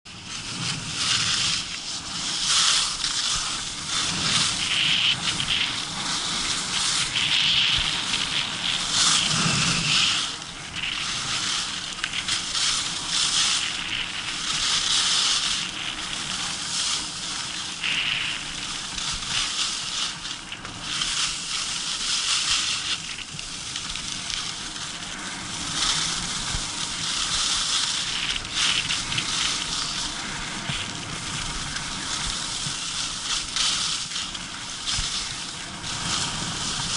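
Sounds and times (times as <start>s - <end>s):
skis scraping over hard snow: 0.1s - 36.9s.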